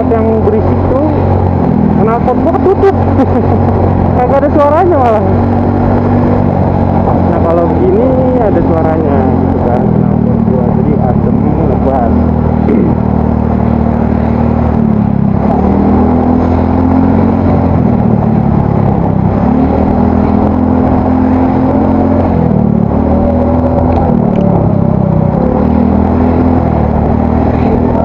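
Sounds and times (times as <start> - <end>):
scooter engine revving: 0.0 - 28.0.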